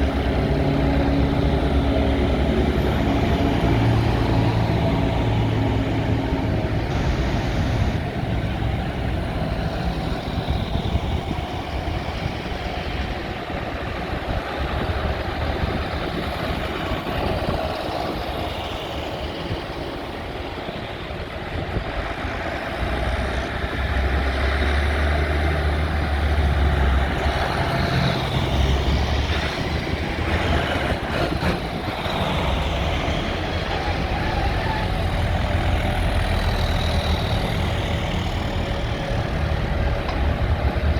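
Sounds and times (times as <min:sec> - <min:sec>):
tractor engines running: 0:00.0 - 0:40.9.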